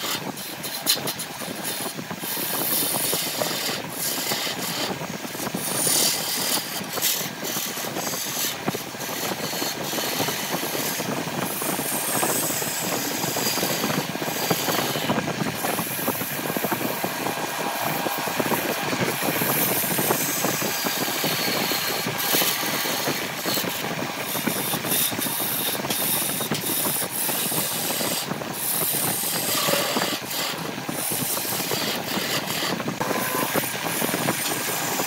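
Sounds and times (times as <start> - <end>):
lathe motor hum: 0.0 - 35.0
turning tool scraping wood: 0.0 - 35.0.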